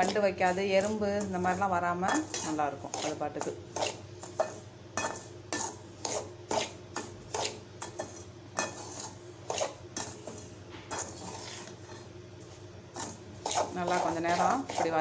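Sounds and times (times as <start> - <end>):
spoon scraping semolina in metal pan: 0.0 - 15.0.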